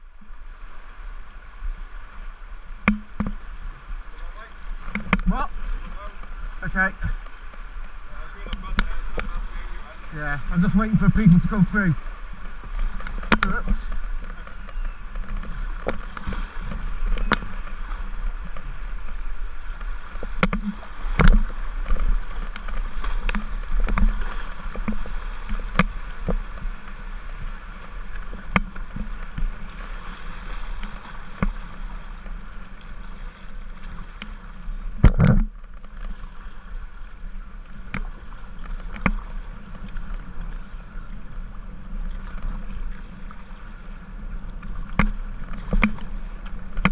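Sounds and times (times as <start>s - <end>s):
paddle splashes and knocks: 0.0s - 46.9s
water slapping kayak hull: 0.0s - 46.9s
whitewater rushing: 0.0s - 46.9s.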